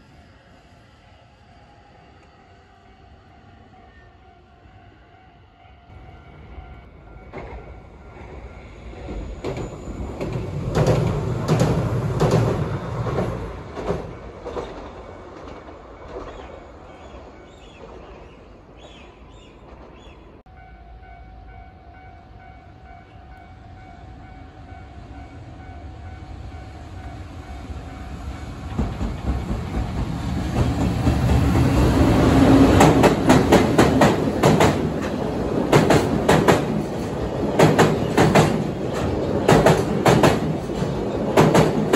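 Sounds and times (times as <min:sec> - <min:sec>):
train passing with wheel clicks: 0:05.9 - 0:41.9.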